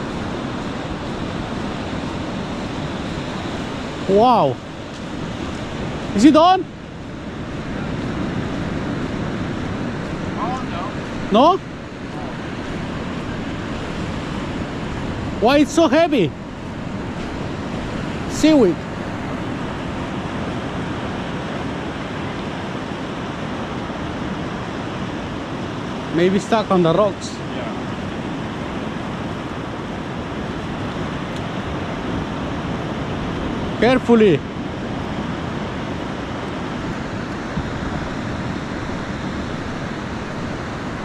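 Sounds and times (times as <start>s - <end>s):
wind noise on microphone: 0.0s - 26.2s, 27.2s - 41.0s
ocean surf on shore: 0.0s - 41.0s.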